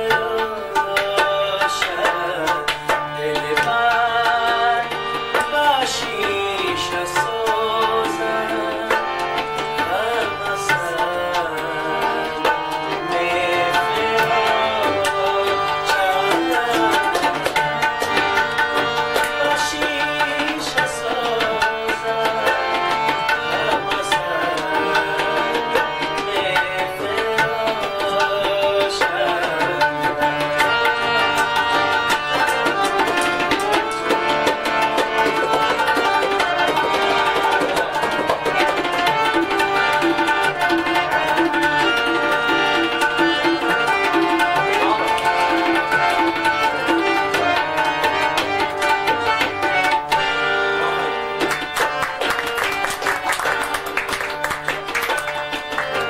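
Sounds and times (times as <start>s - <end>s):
harmonium melody: 0.0s - 56.0s
tabla fast rhythm: 0.0s - 56.0s.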